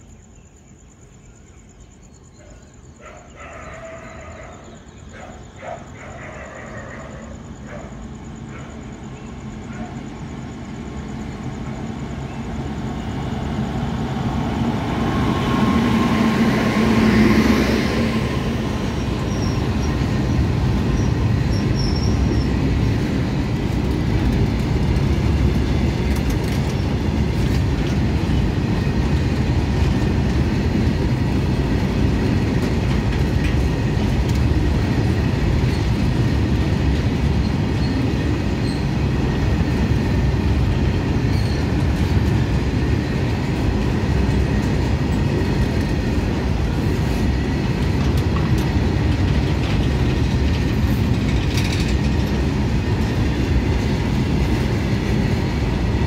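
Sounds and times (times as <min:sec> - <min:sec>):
freight train passing: 0:00.0 - 0:56.0
wheels rumbling on rails: 0:03.0 - 0:56.0.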